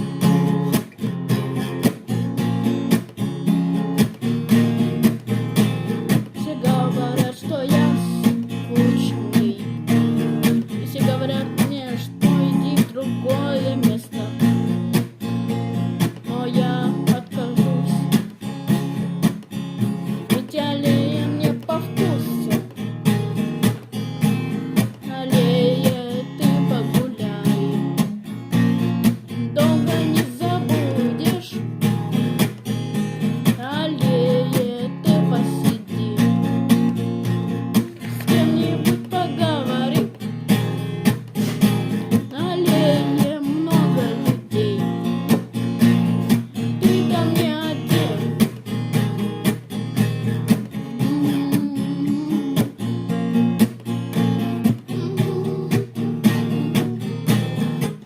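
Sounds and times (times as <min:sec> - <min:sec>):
strummed acoustic guitar: 0:00.0 - 0:58.0.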